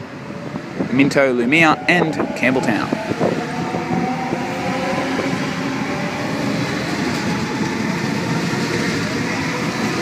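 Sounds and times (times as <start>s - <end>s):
train rail and wheel noise: 0.0s - 10.0s.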